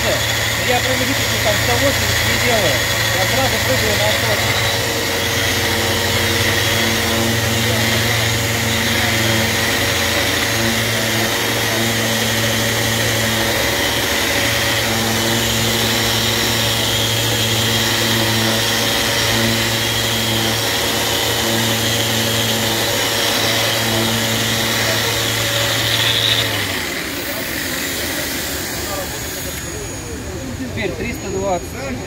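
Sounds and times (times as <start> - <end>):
orbital sander running: 0.0 - 32.0.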